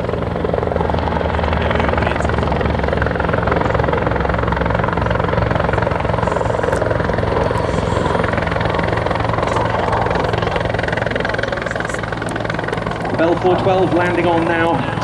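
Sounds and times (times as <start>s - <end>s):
helicopter flying close: 0.0s - 15.0s.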